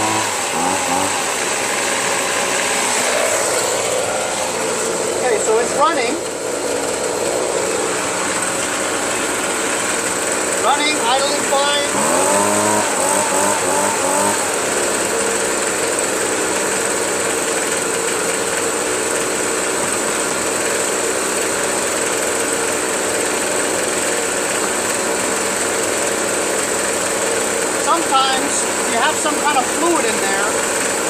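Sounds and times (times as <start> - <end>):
leaf blower engine idling: 0.0 - 31.0.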